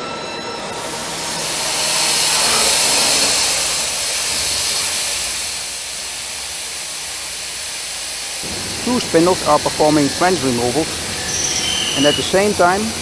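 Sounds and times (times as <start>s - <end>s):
machine cutting steel hissing: 0.0s - 13.0s
steady machine whine: 0.0s - 13.0s.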